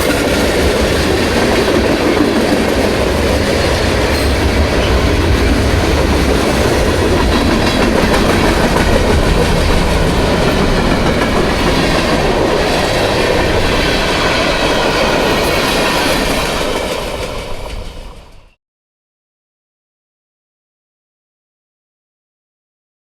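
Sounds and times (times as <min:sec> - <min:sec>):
train wheels clattering over rails: 0:00.0 - 0:18.5.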